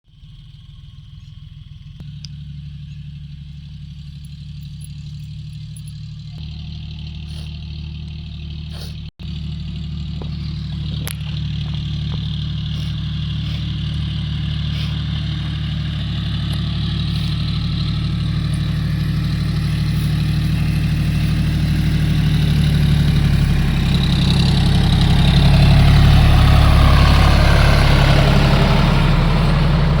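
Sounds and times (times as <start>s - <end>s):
vehicle engine humming: 0.1s - 30.0s.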